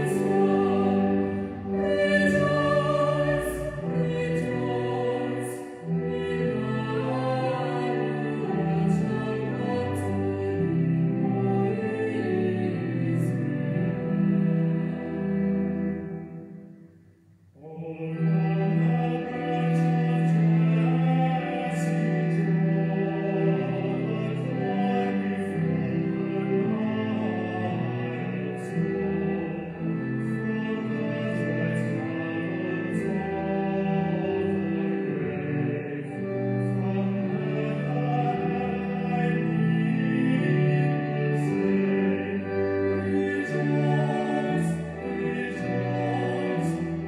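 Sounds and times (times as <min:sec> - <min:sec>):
church choir singing: 0:00.0 - 0:16.9, 0:17.6 - 0:47.0.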